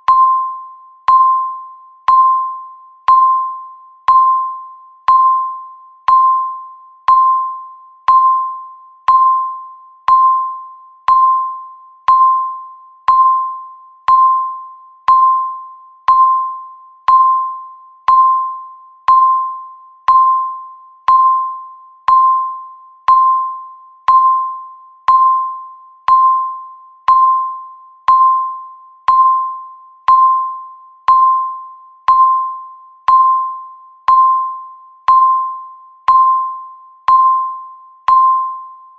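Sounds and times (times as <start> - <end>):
timer beeps: 0.0 - 38.9.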